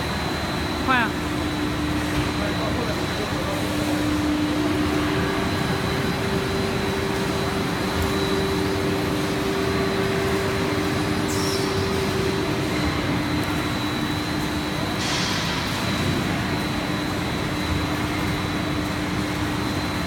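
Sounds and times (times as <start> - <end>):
machinery drone: 0.0 - 20.0
steady machine hums: 0.0 - 20.0.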